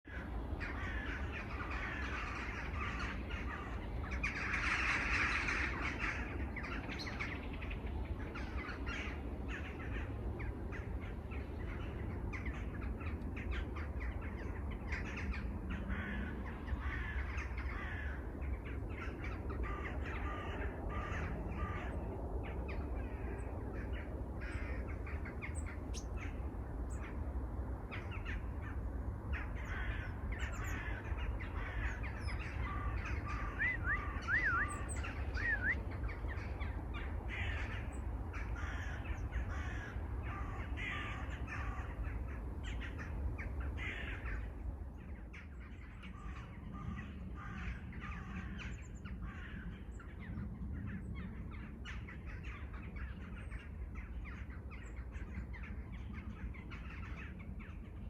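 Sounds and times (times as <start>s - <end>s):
crows cawing: 0.1s - 7.4s, 8.2s - 22.3s, 22.9s - 27.2s, 27.9s - 50.2s
chorus of birds calling: 0.1s - 58.0s.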